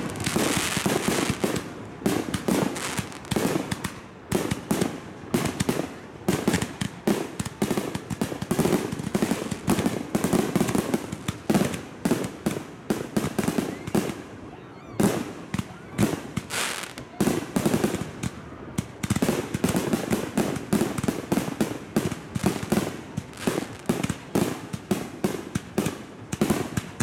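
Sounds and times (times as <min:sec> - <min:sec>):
fireworks bursting: 0:00.0 - 0:27.0.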